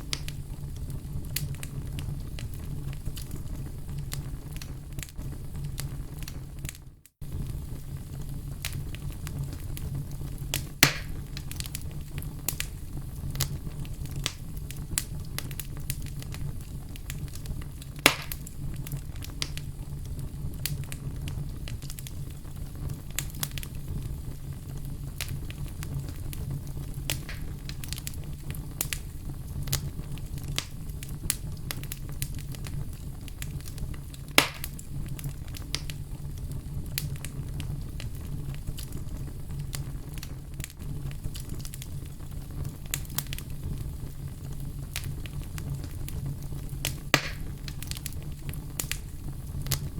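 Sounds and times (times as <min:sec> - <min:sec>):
loud sharp fire pops: 0:00.0 - 0:36.2, 0:36.8 - 0:49.9
wood fire crackling: 0:00.0 - 0:49.9.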